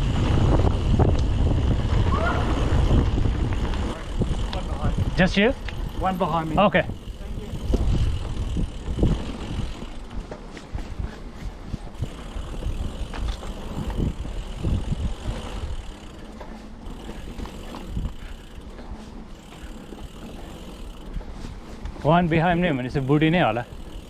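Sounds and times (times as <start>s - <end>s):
bike knocks and rattles: 0.0s - 24.0s
bike tyres crunching on dirt: 0.0s - 24.0s.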